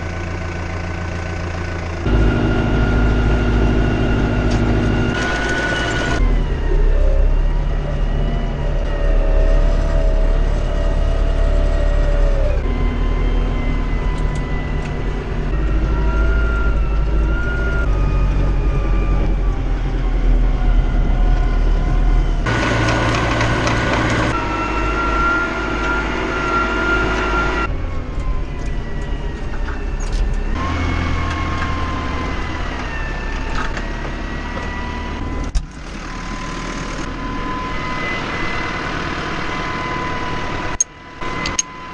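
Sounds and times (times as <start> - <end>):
tractor engine rumble and whine: 0.0 - 41.9.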